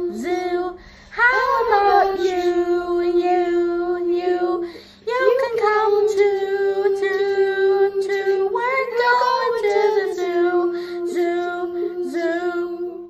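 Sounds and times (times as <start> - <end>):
boys singing together: 1.2 - 13.0.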